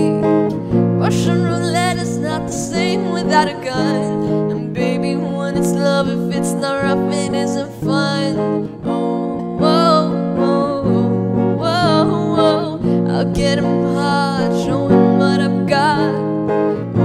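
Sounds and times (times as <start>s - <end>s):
electric guitar chords: 0.0s - 17.0s
girl singing pop song: 0.0s - 17.0s.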